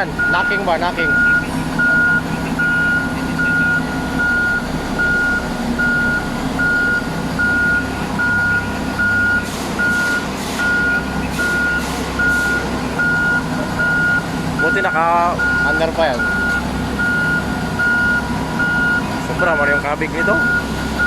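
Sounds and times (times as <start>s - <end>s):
back-up alarm beeping: 0.0s - 21.0s
diesel engine knocking: 0.0s - 21.0s.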